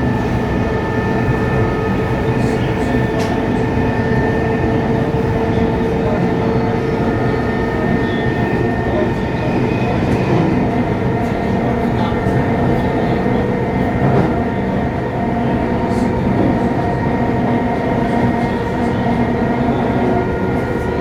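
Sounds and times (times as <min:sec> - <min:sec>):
train car rumble: 0:00.0 - 0:21.0.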